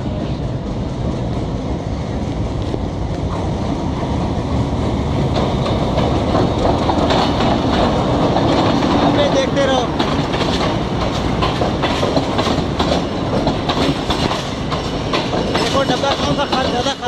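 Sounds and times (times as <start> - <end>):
diesel train rolling past: 0.0 - 17.0
wheels clickety-clack over rail joints: 0.0 - 17.0.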